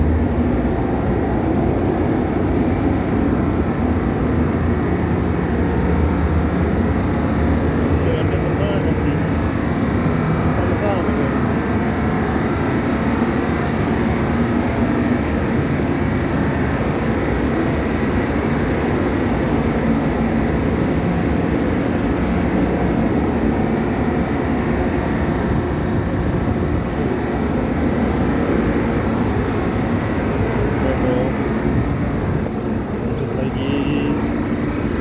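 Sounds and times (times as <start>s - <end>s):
ferry engines rumbling: 0.0s - 35.0s.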